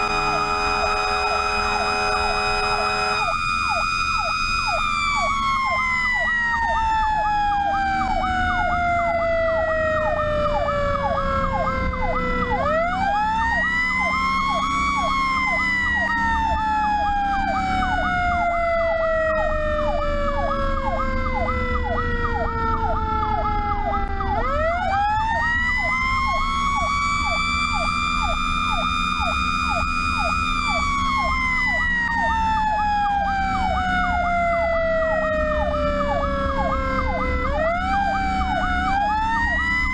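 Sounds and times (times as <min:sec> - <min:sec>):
electronic siren yelping: 0:00.0 - 0:39.9
engine and road rumble: 0:00.0 - 0:39.9
siren wailing: 0:00.0 - 0:39.9.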